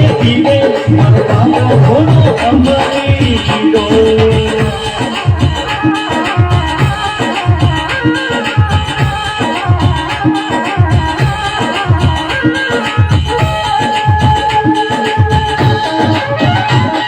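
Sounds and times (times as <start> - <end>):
rhythmic drum beat: 0.0 - 17.0.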